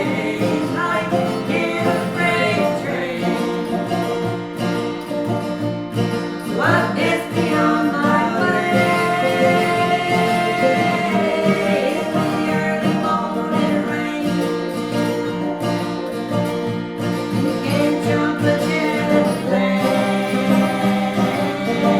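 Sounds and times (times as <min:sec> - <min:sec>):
acoustic folk guitar music: 0:00.0 - 0:21.9.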